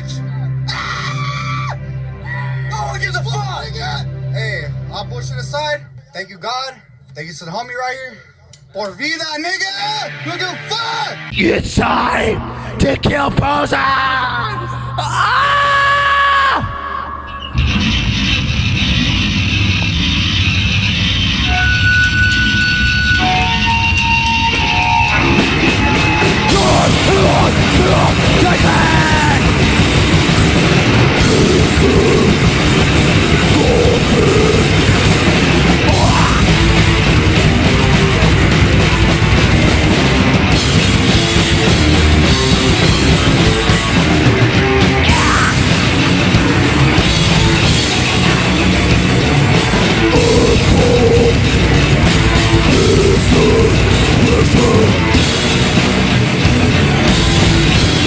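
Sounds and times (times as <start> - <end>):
heavy metal band playing: 10.0 - 58.0.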